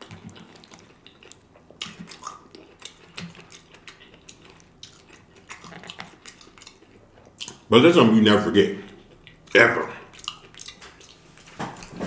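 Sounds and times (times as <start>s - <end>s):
wet chewing: 0.0s - 7.7s, 8.8s - 12.0s.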